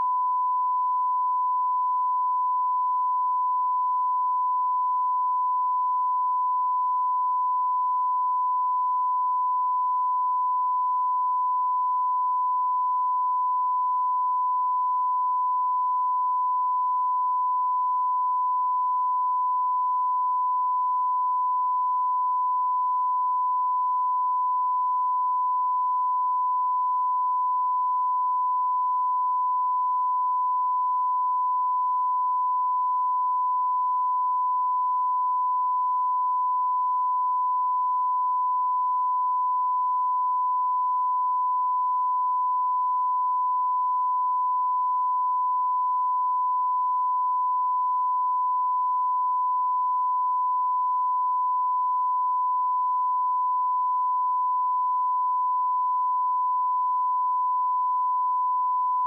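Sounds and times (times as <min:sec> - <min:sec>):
sine-wave test tone: 0:00.0 - 0:59.0.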